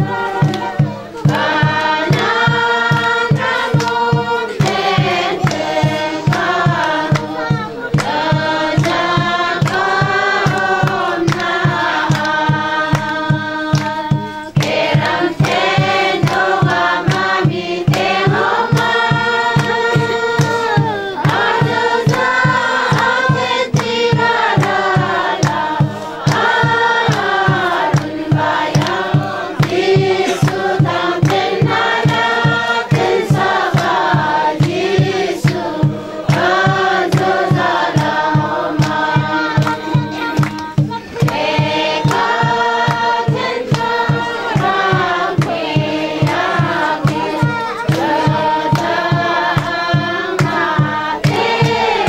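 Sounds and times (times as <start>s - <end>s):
group of voices singing: 0.0s - 52.0s
steady low beat: 0.0s - 52.0s.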